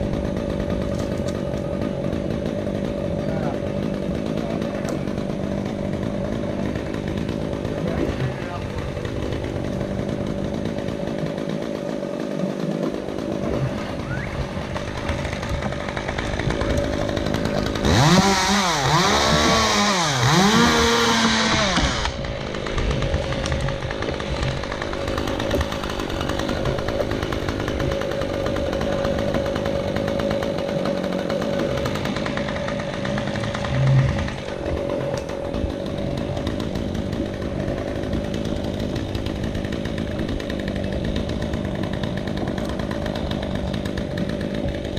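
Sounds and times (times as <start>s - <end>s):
chainsaw running and revving: 0.0s - 44.9s.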